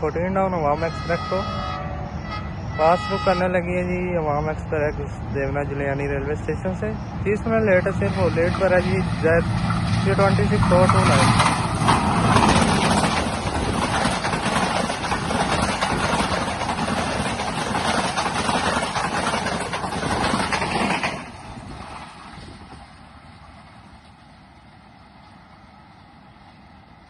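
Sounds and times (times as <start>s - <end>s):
low train rumble: 0.0s - 27.0s
train wheels on rails: 0.0s - 27.0s.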